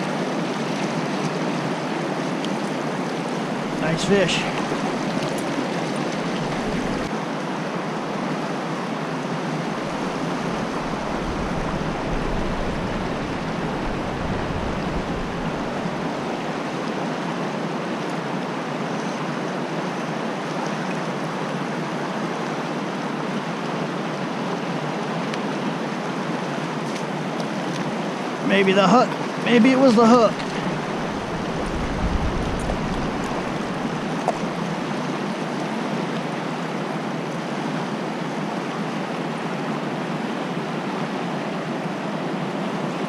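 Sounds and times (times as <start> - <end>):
creek water rushing over rocks: 0.0 - 43.0.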